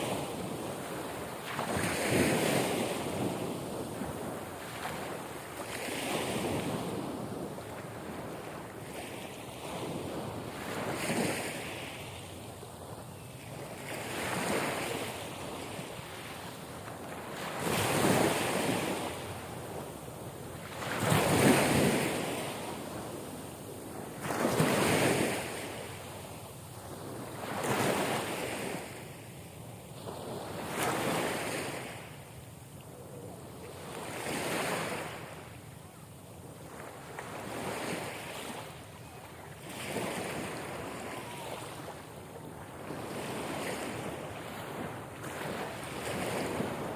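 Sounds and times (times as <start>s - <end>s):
ocean waves breaking: 0.0s - 13.0s, 13.6s - 29.3s, 32.9s - 35.6s, 36.5s - 46.9s.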